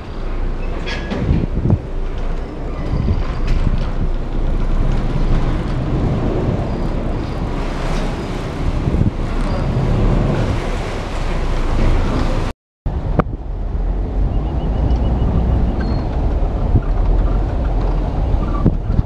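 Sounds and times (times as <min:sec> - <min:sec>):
ferry engines running: 0:00.0 - 0:19.0
wind buffeting microphone: 0:00.0 - 0:19.0.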